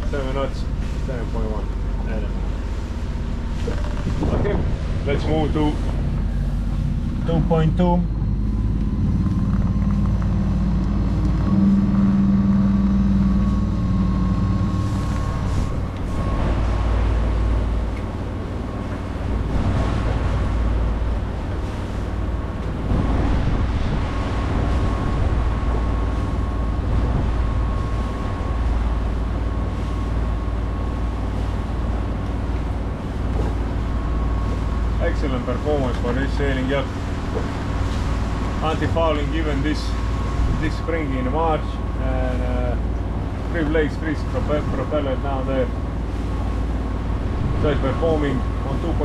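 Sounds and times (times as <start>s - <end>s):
boat diesel engine running: 0.0s - 49.0s.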